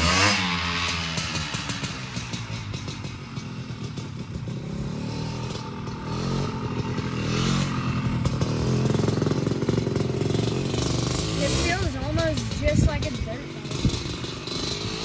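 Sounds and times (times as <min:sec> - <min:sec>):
three-wheeler engine running: 0:00.0 - 0:15.0.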